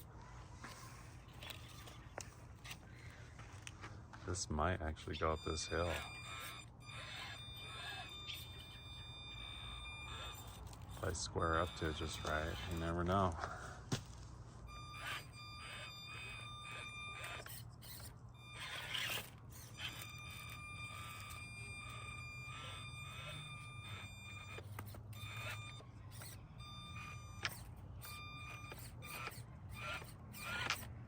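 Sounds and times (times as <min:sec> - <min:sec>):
electric motor whining: 0:04.6 - 0:13.4, 0:14.7 - 0:31.0.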